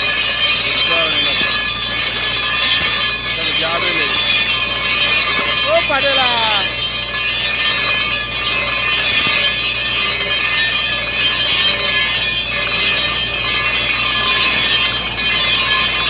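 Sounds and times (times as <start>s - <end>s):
high mechanical whine: 0.0s - 16.0s.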